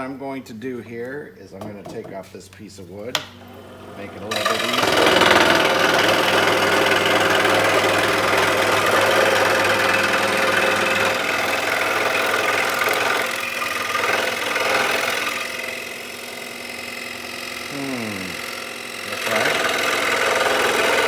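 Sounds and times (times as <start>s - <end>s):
scroll saw buzzing: 3.1s - 21.0s.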